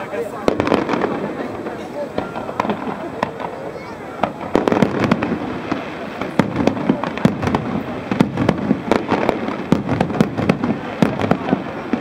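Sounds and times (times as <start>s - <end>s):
firework shells bursting: 0.4s - 12.0s.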